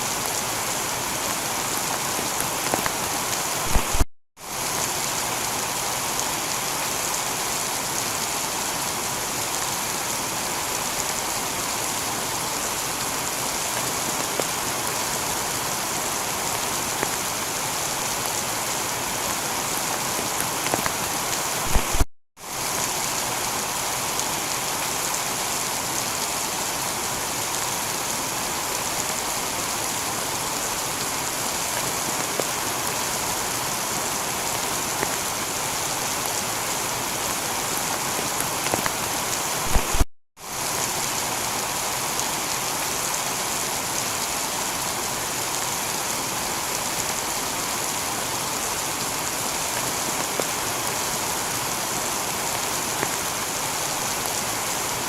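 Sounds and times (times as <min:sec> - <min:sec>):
heavy rain on a tiled roof: 0:00.0 - 0:55.0.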